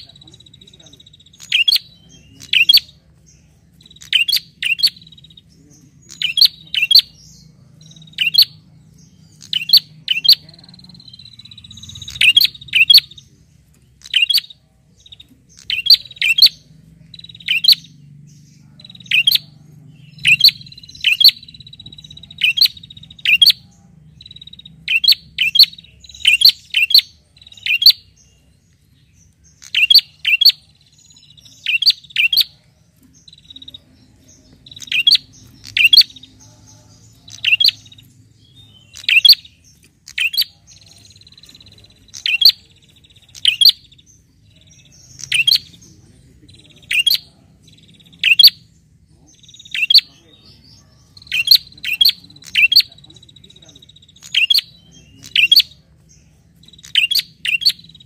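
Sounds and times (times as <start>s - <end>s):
bird chirping: 0.0s - 58.0s.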